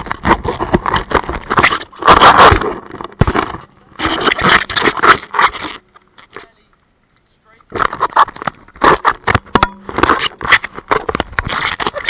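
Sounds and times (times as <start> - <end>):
camera rubbing against jacket: 0.0 - 6.6, 7.7 - 12.0.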